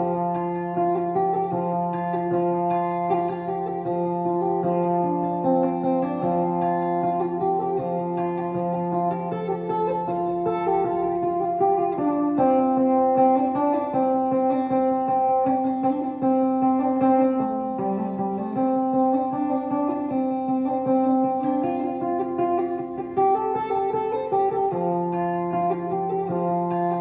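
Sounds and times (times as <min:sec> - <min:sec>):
plucked guitar music: 0:00.0 - 0:27.0.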